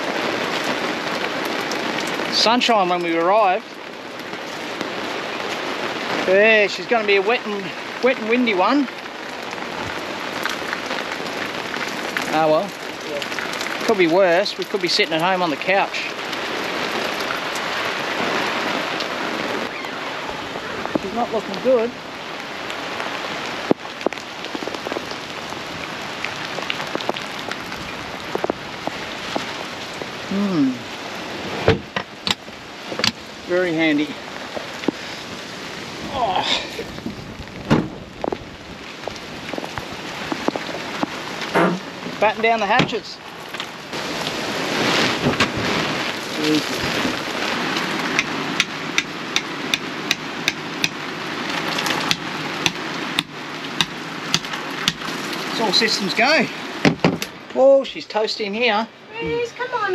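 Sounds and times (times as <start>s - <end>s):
raindrops tapping hard surfaces: 0.0s - 59.9s
steady rain falling: 0.0s - 59.9s.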